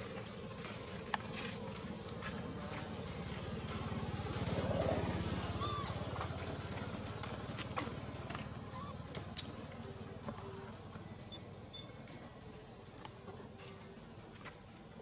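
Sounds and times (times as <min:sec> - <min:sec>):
outdoor background sound: 0:00.0 - 0:15.0.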